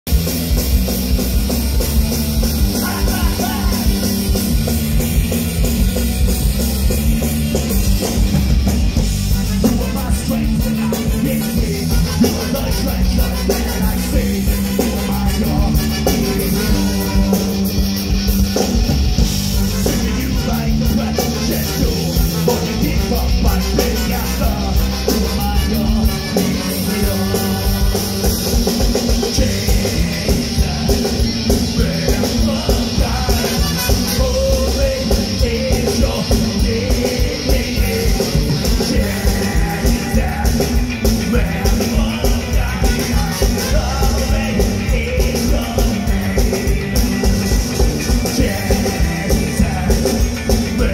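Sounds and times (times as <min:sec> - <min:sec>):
drum kit beat: 0:00.0 - 0:50.9
rock music: 0:00.0 - 0:50.9
person singing: 0:01.6 - 0:04.8, 0:09.5 - 0:17.8, 0:19.6 - 0:50.9.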